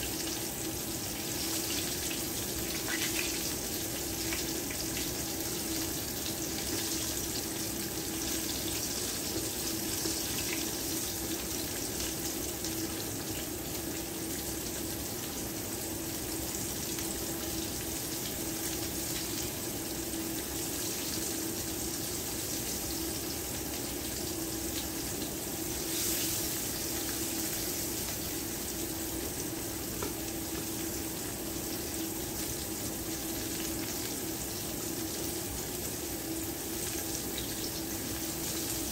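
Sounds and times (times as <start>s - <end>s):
food frying in hot oil: 0.0s - 38.9s.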